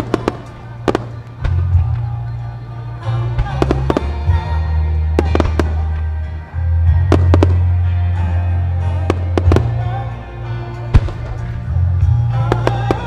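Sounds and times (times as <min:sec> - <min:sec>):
music with deep bass line: 0:00.0 - 0:13.0.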